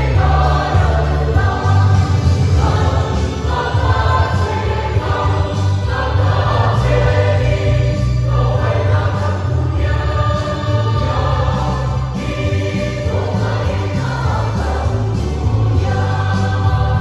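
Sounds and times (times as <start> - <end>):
mixed choir singing a hymn: 0.0 - 17.0.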